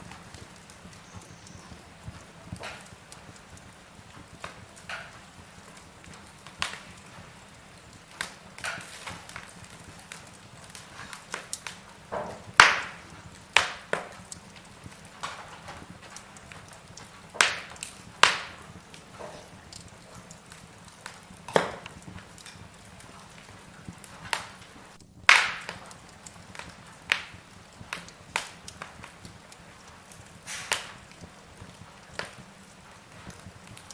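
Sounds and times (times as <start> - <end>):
faint fire hiss: 0.0 - 33.9
wood fire crackling and popping: 0.0 - 33.9.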